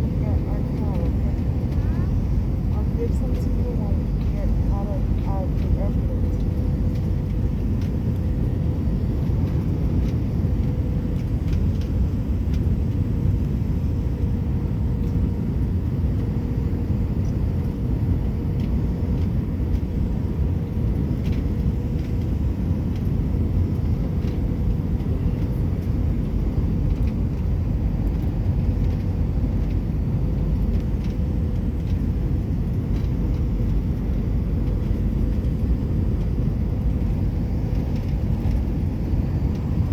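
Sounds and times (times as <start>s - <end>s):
jet engines and rushing air: 0.0s - 39.9s.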